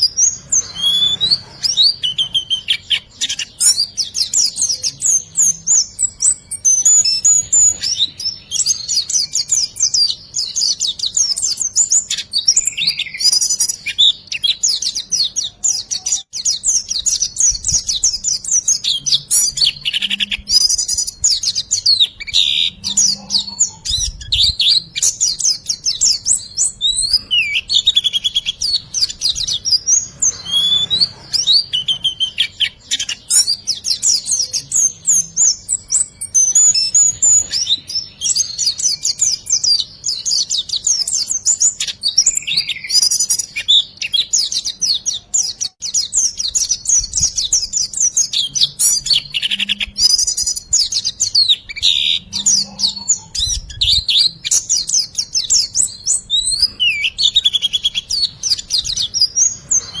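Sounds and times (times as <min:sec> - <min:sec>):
bird chirps and trills: 0:00.0 - 1:00.0.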